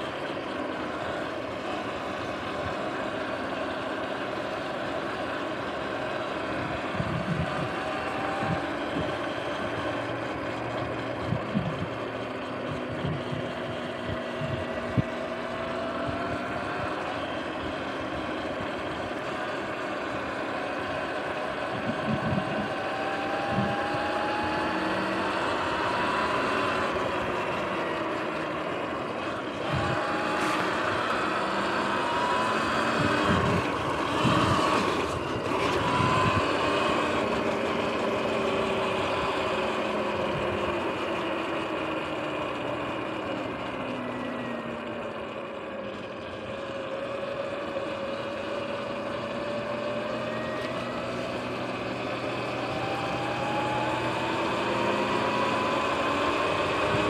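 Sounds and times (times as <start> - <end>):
electric motor and chain whine: 0.0 - 57.0
wind: 0.0 - 57.0.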